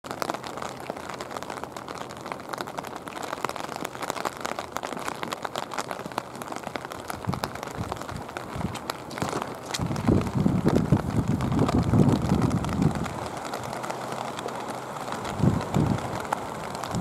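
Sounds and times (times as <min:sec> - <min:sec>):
raindrops hitting umbrella: 0:00.0 - 0:17.0
rain hiss: 0:00.1 - 0:17.0.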